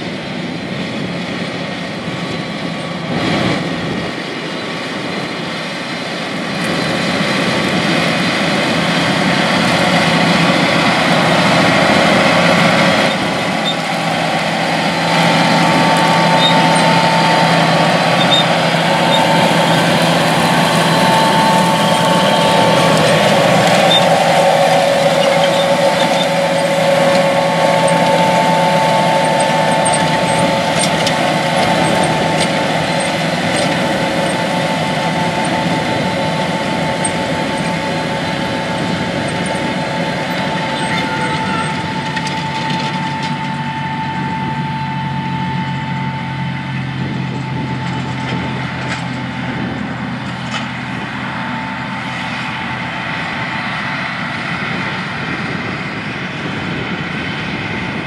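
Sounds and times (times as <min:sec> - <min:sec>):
steady whine: 0:00.0 - 0:58.0
tractor and planter running: 0:00.0 - 0:58.0.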